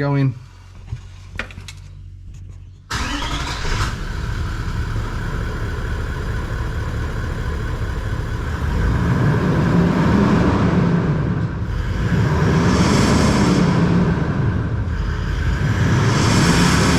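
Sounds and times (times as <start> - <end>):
car engine revving: 2.9 - 16.9.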